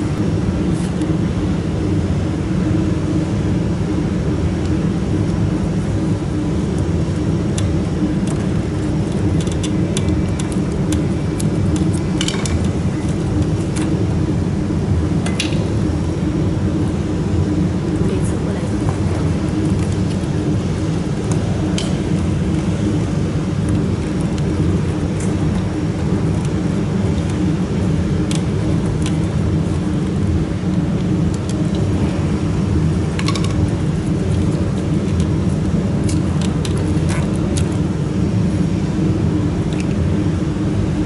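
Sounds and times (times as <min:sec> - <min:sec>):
low machine drone: 0:00.0 - 0:41.0.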